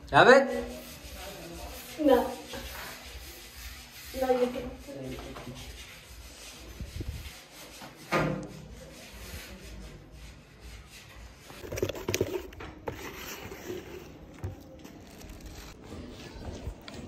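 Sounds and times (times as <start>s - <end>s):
paintbrush strokes on wood: 0.4s - 16.8s.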